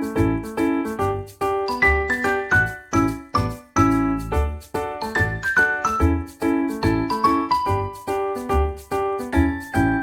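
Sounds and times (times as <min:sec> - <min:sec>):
bright keyboard melody: 0:00.0 - 0:10.0.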